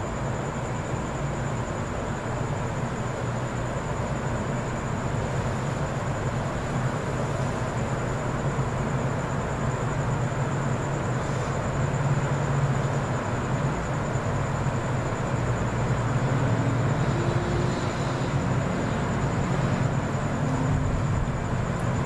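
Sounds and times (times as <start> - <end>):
outdoor background rumble: 0.0 - 22.0.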